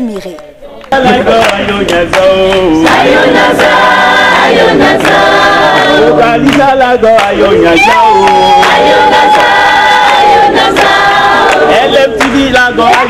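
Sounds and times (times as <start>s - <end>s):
handclaps: 0.1s - 3.8s, 4.9s - 5.4s, 6.4s - 13.0s
group singing praise song: 0.9s - 13.0s.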